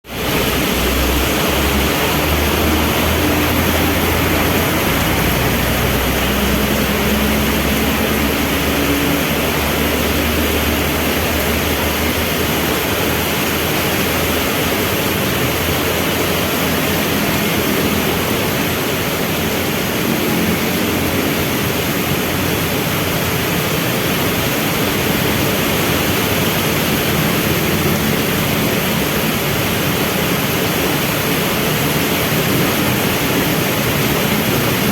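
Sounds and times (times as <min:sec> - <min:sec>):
heavy rain pouring: 0:00.0 - 0:34.9
vehicle engines idling: 0:00.1 - 0:34.9.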